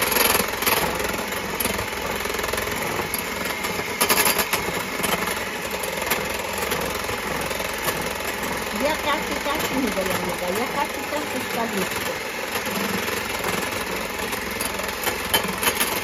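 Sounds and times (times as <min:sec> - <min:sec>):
electric mixer whipping: 0:00.0 - 0:16.0.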